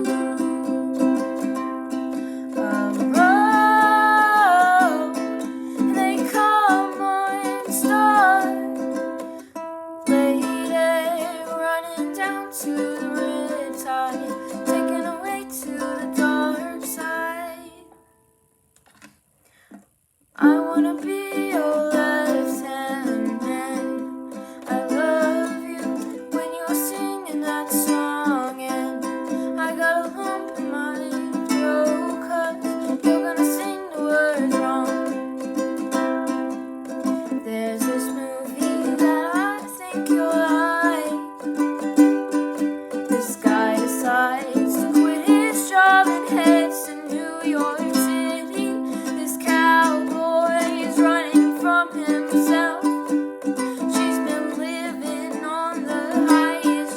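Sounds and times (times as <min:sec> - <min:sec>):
person singing: 0:00.0 - 0:18.1, 0:20.4 - 0:56.9
ukulele strumming chords: 0:00.0 - 0:18.2, 0:20.4 - 0:56.9.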